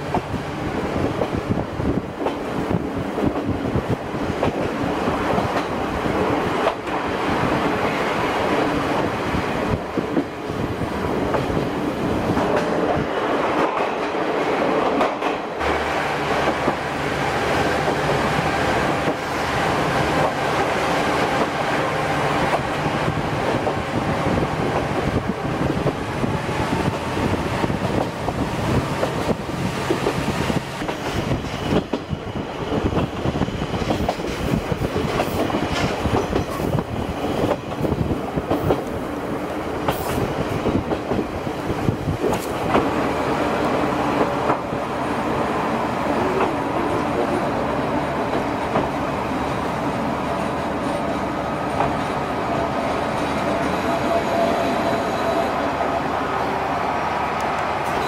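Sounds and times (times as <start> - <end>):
train wheels clicking on rails: 0.0 - 54.7.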